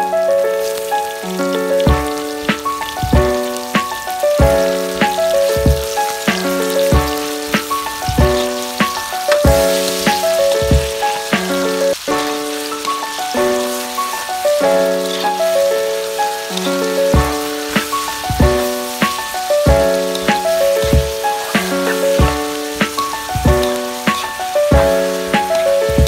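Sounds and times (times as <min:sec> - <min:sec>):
food sizzling in oil: 0:00.1 - 0:26.0
background music with beat: 0:01.3 - 0:26.0.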